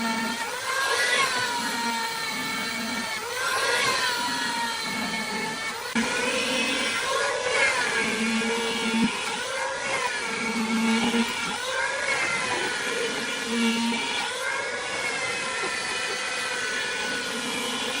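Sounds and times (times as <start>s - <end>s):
power tool motor whining: 0.0s - 18.0s.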